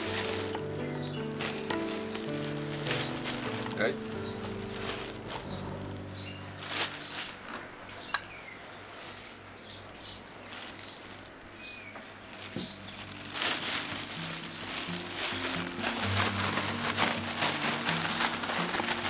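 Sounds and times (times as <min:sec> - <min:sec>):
plastic bag crinkling: 0:00.0 - 0:08.1, 0:10.0 - 0:19.0.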